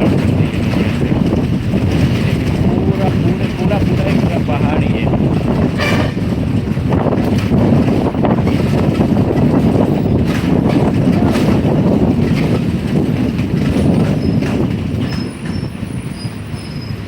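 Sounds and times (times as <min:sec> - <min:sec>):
vehicle rumble and road noise: 0:00.0 - 0:17.0.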